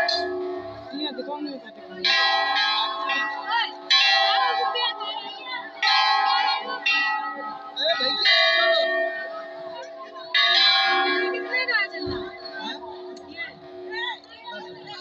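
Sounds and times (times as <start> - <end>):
temple bells clanging: 0.0 - 15.0.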